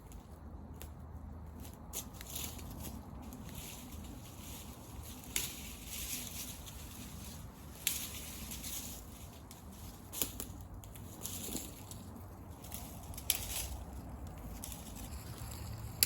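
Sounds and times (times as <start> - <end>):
campfire crackling and hissing: 0.0 - 16.0.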